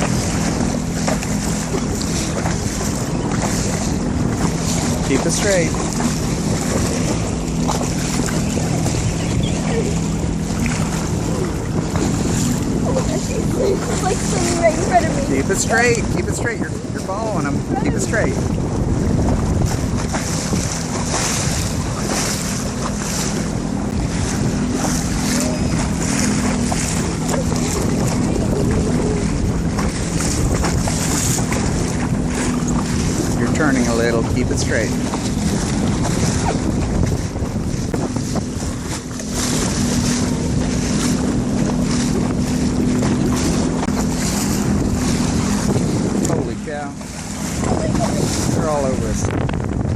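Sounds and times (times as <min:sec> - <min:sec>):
jet ski engine idling: 0:00.0 - 0:49.9
water washing against hull: 0:00.0 - 0:49.9
wind buffeting microphone: 0:00.0 - 0:49.9.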